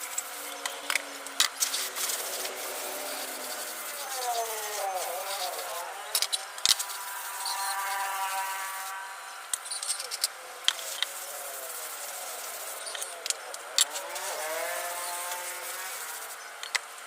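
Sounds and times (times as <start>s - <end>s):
small motorcycle engine revving: 0.0s - 9.5s, 11.2s - 16.6s.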